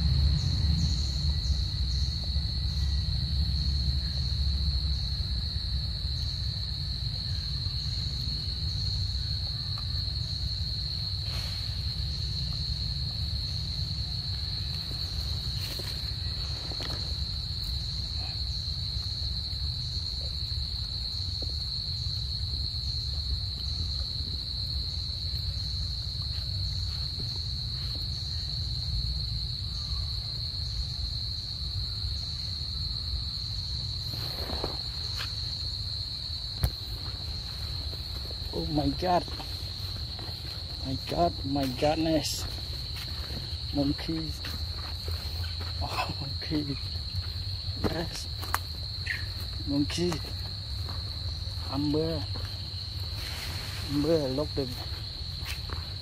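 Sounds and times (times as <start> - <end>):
insect pulsing: 0.0 - 56.0
insects trilling: 0.0 - 56.0.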